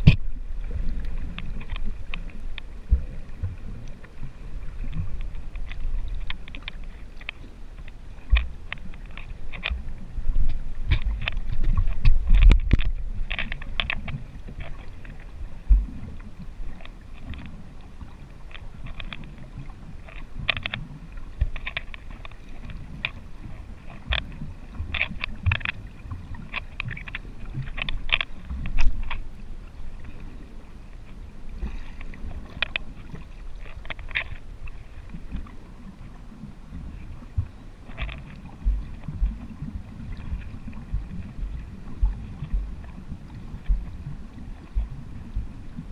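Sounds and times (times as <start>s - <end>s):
sharp clicks and crackles: 0.0s - 4.2s, 4.8s - 17.6s, 18.4s - 29.3s, 31.6s - 35.5s, 37.4s - 45.9s
muffled underwater rumble: 0.0s - 45.9s.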